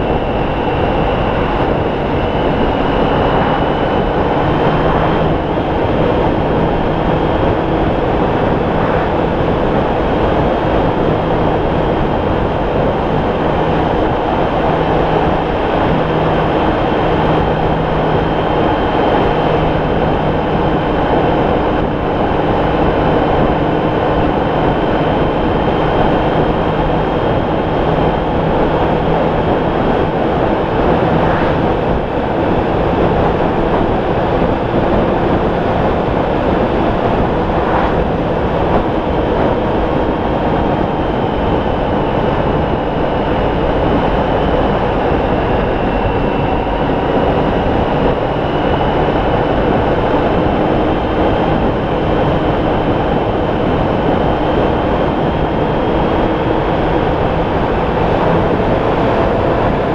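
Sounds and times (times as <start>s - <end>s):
motorcycle engine droning: 0.0s - 59.9s
wind and road noise: 0.0s - 59.9s.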